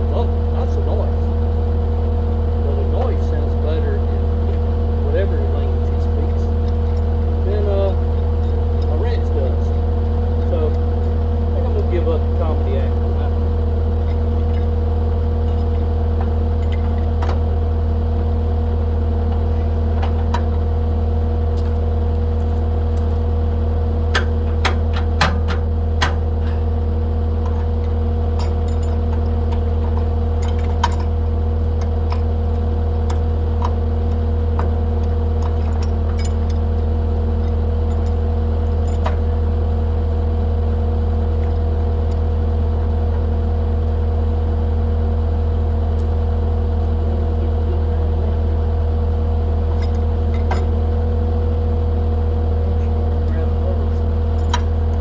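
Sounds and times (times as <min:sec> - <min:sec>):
skid steer engine idling: 0:00.0 - 0:55.0.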